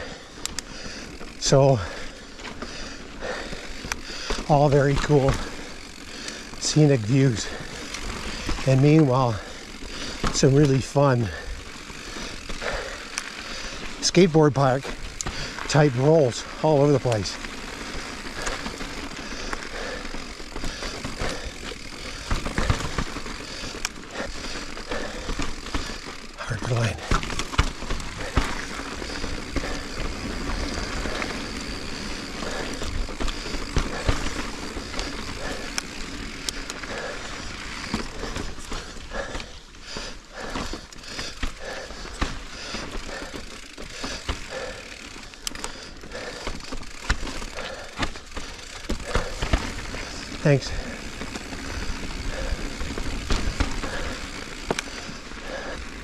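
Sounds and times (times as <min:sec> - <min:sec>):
bike tyres rolling over rock: 0:00.0 - 0:56.0.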